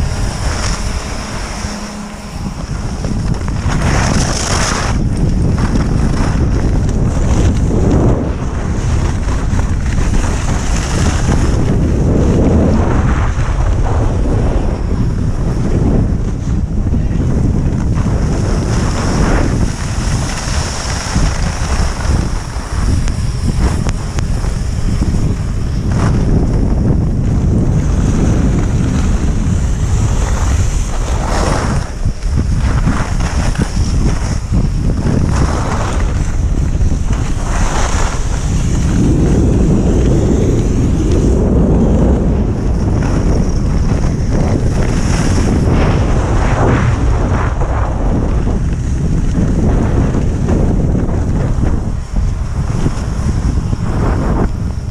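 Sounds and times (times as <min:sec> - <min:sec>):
skis swishing on turns: 0:00.0 - 0:14.8, 0:17.6 - 0:54.8
skis sliding over snow: 0:00.0 - 0:54.9
wind buffeting microphone: 0:00.0 - 0:54.9.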